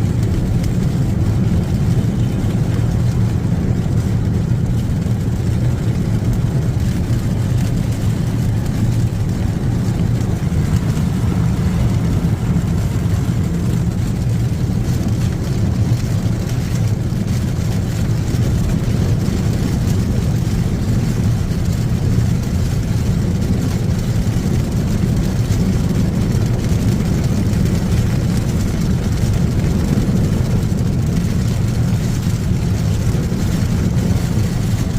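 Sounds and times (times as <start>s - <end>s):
vehicle low rumble: 0.0s - 34.9s.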